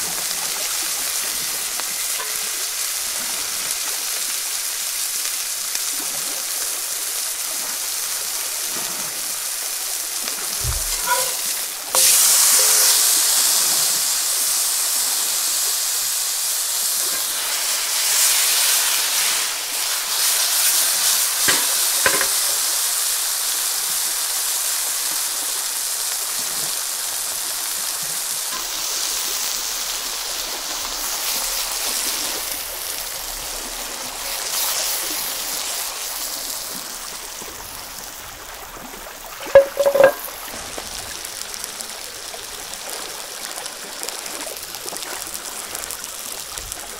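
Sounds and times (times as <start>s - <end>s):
steak sizzling in a pan: 0.0s - 46.9s.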